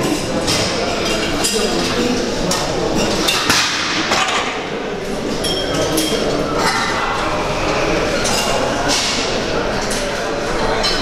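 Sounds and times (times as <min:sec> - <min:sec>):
busy background noise: 0:00.0 - 0:11.0.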